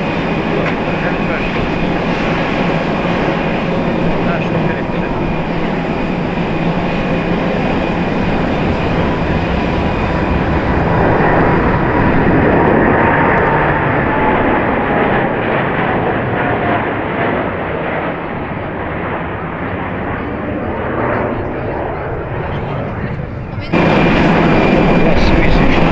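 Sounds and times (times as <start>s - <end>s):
faint engine whine: 0.0s - 15.9s, 16.7s - 25.9s
jet engines passing: 0.0s - 25.9s.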